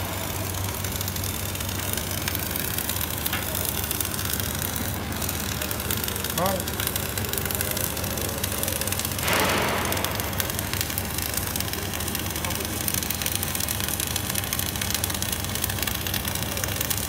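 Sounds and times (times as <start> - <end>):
low machine hum: 0.0 - 17.0
welding arc crackling and hissing: 0.0 - 17.0.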